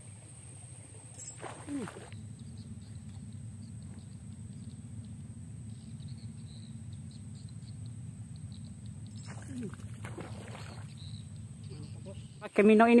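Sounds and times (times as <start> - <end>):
faint high chirps: 1.1 - 12.5.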